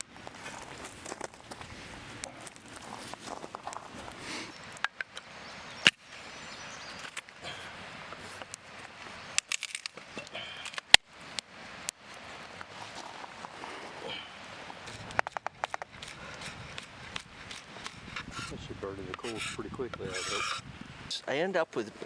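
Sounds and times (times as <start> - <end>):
cooking fire crackling: 0.0 - 22.0.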